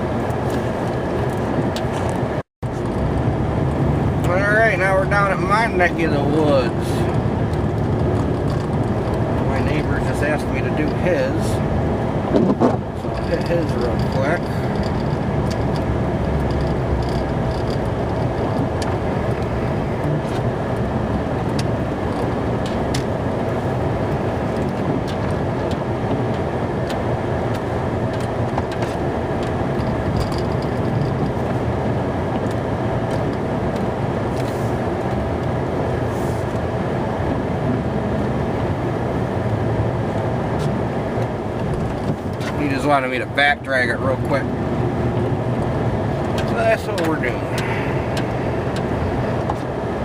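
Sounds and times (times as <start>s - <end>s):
truck engine and road noise: 0.0s - 50.0s.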